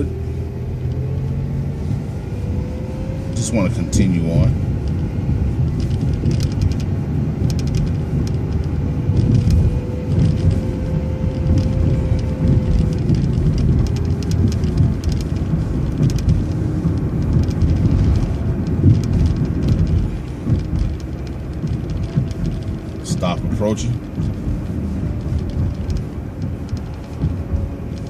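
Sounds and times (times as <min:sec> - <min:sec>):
bus engine and road rumble: 0:00.0 - 0:28.0
small rattles: 0:03.3 - 0:28.0.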